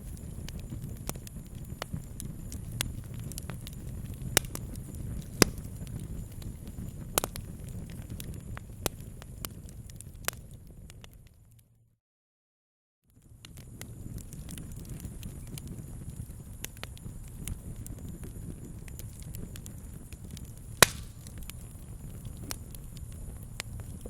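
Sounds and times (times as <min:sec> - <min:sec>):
campfire crackling: 0:00.0 - 0:11.6, 0:13.2 - 0:24.0.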